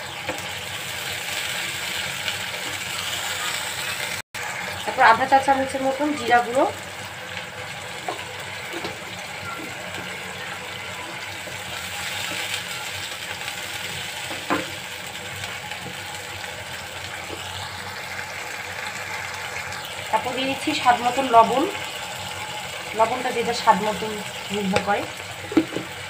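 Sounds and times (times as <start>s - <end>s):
paste bubbling and sizzling in a wok: 0.0s - 26.0s.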